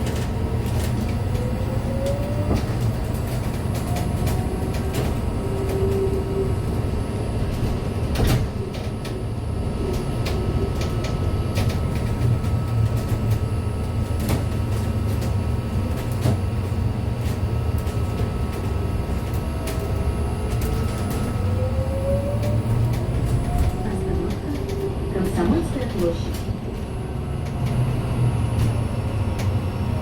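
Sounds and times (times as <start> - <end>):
bus road rumble: 0.0 - 30.0.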